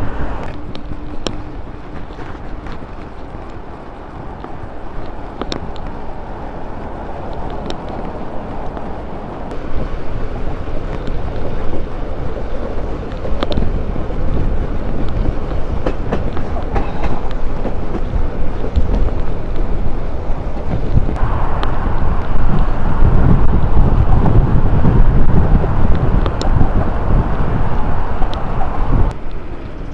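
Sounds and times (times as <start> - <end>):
bicycle tyres rumbling: 0.0 - 29.9
bike rattling over bumps: 0.0 - 29.9
wind buffeting microphone: 0.0 - 29.9.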